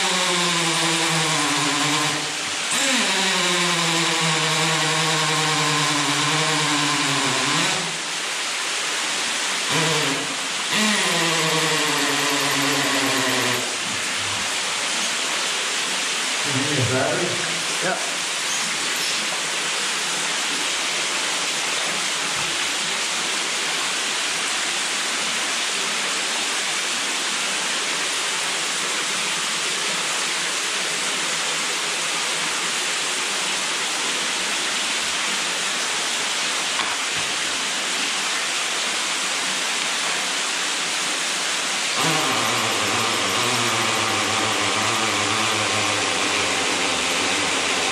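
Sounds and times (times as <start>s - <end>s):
underground waterfall rushing: 0.0s - 47.9s.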